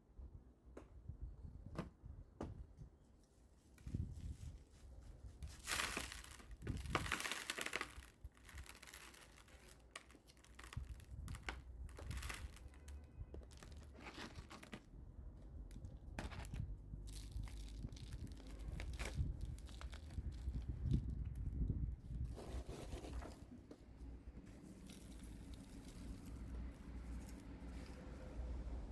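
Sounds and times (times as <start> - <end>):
hands rustling potting soil and pots: 1.6 - 28.9.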